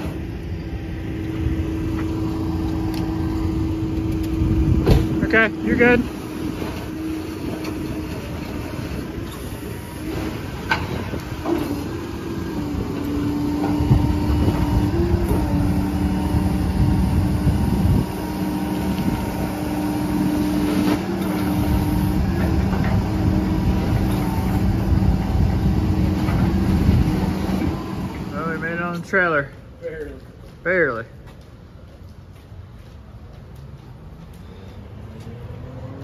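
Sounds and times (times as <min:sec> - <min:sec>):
truck engine running: 0:00.0 - 0:28.9
constant hydraulic whine: 0:00.0 - 0:31.6.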